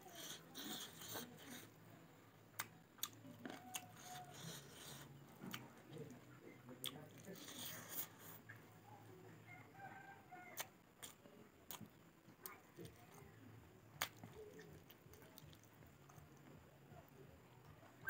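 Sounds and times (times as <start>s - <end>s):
faint chewing: 0.0s - 1.8s, 2.5s - 18.0s.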